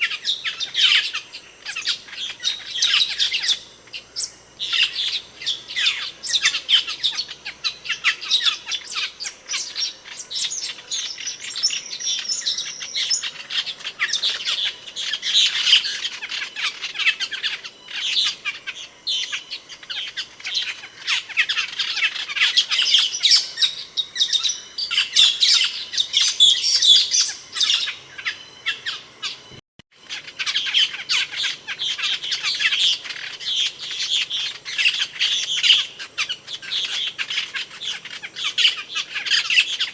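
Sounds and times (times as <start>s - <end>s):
starlings chirping and squawking: 0.0s - 39.9s.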